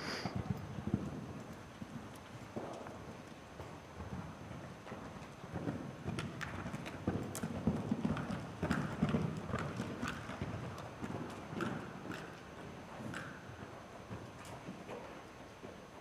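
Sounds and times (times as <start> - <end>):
pony hoofbeats on sand: 0.2 - 16.0.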